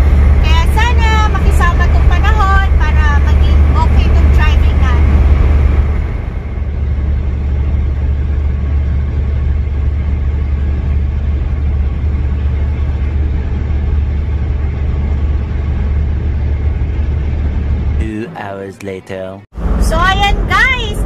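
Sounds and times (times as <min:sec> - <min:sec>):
road noise: 0:00.0 - 0:21.0
truck engine drone: 0:00.0 - 0:21.0.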